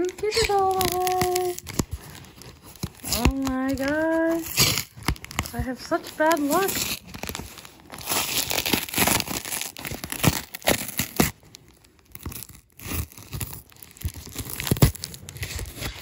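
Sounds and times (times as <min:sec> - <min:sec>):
packing tape peeling off cardboard: 0:00.0 - 0:16.0.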